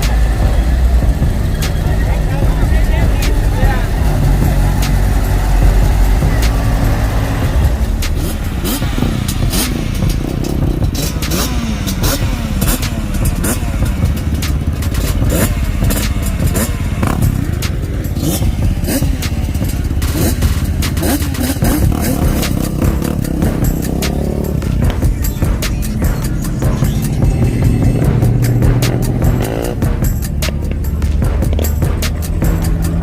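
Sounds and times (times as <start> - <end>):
heavy low rumble: 0.0 - 33.0
vehicle engines revving: 0.0 - 33.0.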